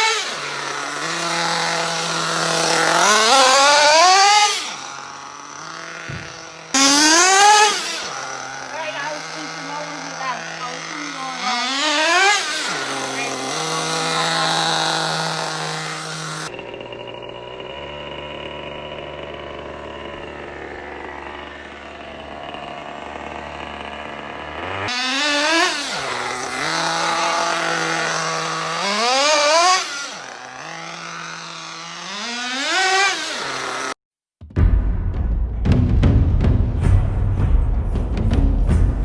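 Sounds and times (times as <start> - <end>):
model engine idling and revving: 0.0 - 34.0.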